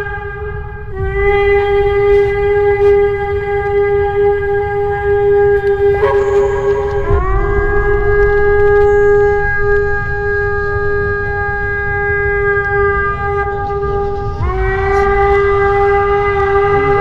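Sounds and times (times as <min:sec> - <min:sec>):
low rumble: 0:00.0 - 0:17.0
trumpet-like blare in the sky: 0:00.0 - 0:17.0.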